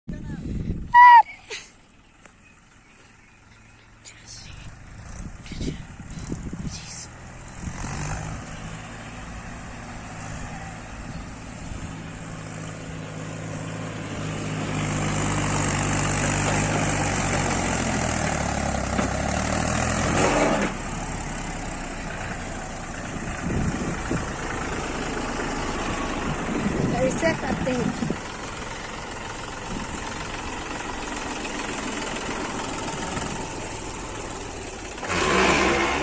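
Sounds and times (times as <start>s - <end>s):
tractor diesel engine running: 0.1s - 36.0s.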